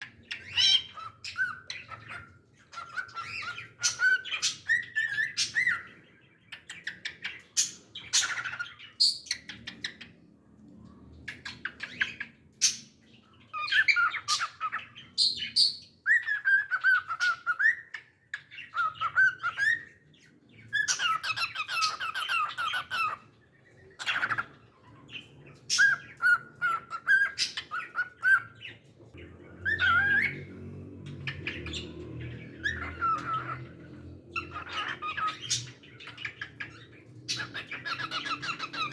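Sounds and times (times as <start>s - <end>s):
cockatiel singing and chirping: 0.0s - 10.2s, 11.1s - 38.9s.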